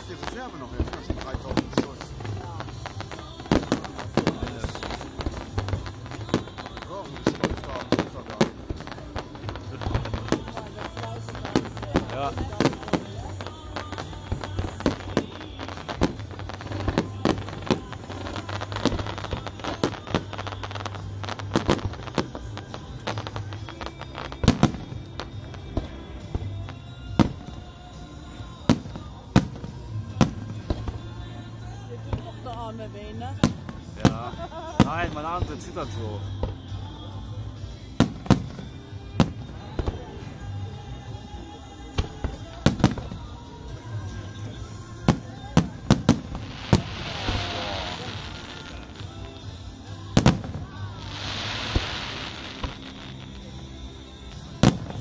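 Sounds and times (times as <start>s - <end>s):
fireworks bursting: 0.0s - 55.0s
fireworks crackle: 0.0s - 55.0s.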